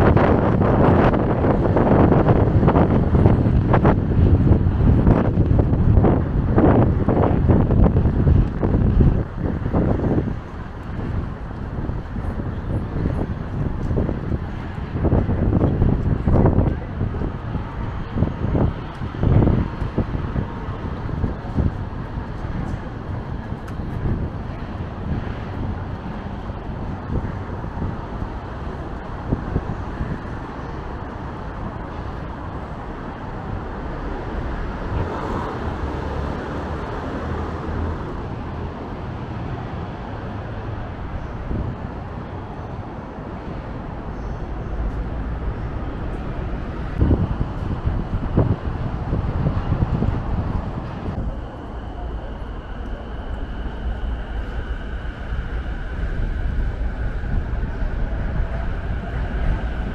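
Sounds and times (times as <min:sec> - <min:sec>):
road traffic: 0:00.0 - 0:59.9
wind buffeting microphone: 0:00.0 - 0:59.9.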